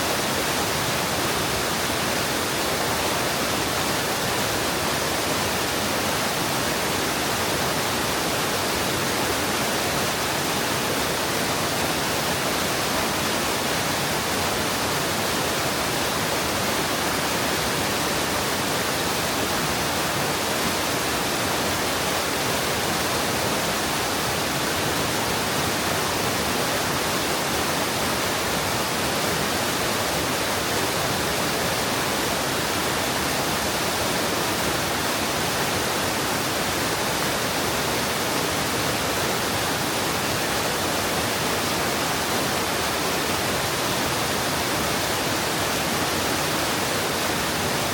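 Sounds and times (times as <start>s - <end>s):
stream rushing over rock: 0.0s - 47.9s.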